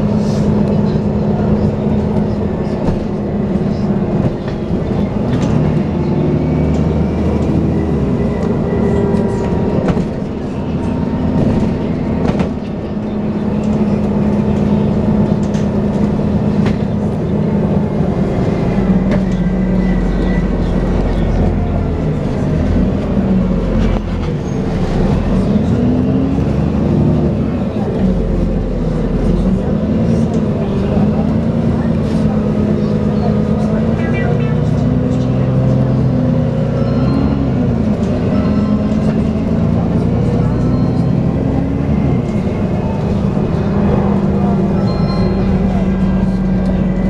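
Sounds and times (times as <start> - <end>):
bus drivetrain whining: 0.0 - 47.0
bus rattles and knocks: 0.0 - 47.0.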